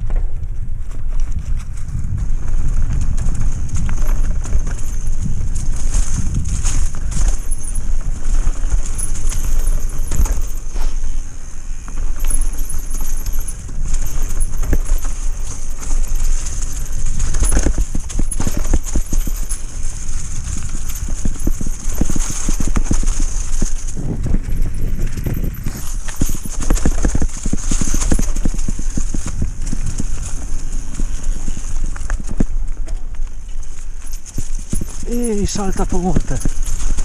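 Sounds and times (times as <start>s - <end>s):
bike rattling and clattering: 0.0s - 37.0s
wind on microphone: 0.0s - 37.0s.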